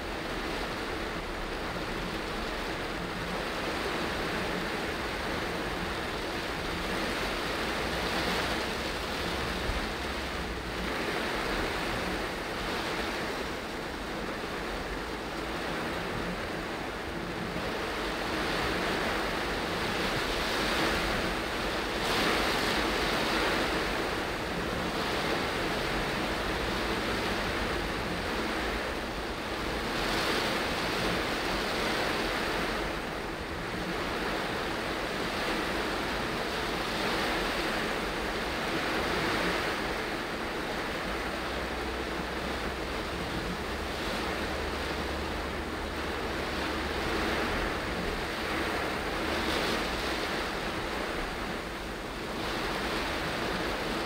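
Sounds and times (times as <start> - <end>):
heavy rain on car roof: 0.0 - 54.0
tyres on flooded road: 0.0 - 54.0.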